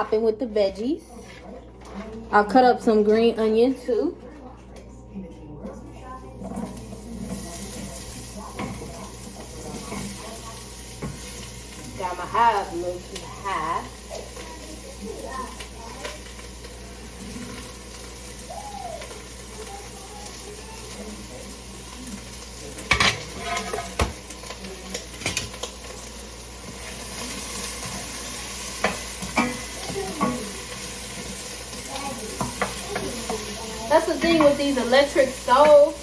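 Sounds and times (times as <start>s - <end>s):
vegetables sizzling in a frying pan: 6.4s - 36.0s.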